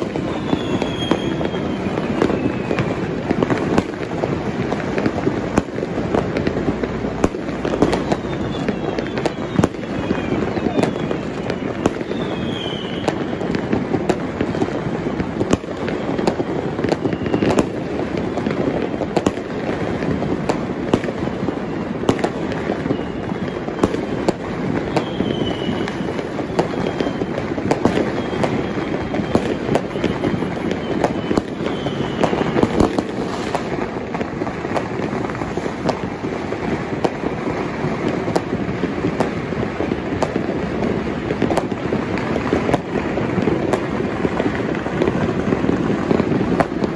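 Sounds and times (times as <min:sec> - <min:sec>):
firework bangs: 0:00.0 - 0:46.9
firework whistle: 0:00.0 - 0:46.9
fireworks crackling: 0:00.0 - 0:46.9.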